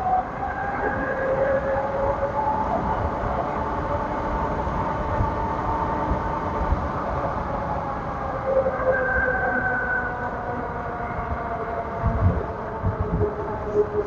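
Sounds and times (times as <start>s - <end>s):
wind buffeting microphone: 0.0s - 8.8s, 9.4s - 14.0s.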